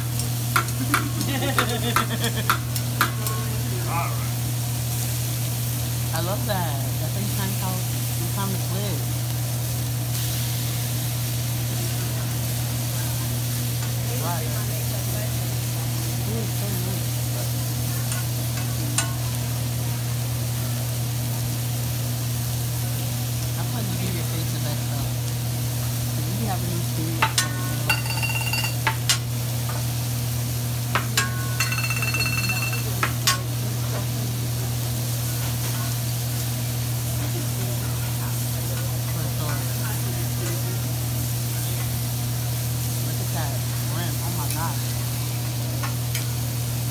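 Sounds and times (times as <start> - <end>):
food sizzling on a griddle: 0.0 - 46.9.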